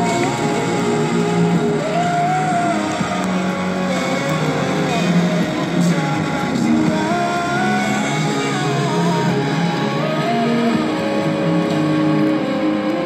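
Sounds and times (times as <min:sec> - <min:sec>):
sliding melody over low drone: 0:00.0 - 0:13.0.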